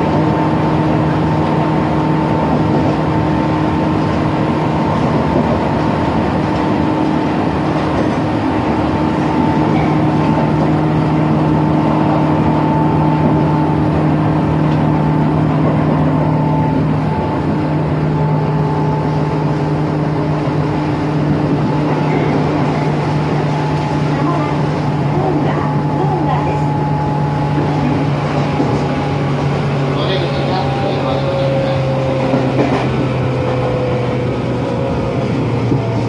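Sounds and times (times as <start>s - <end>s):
train motors humming: 0.0s - 36.0s
wheels rumbling on track: 0.0s - 36.0s.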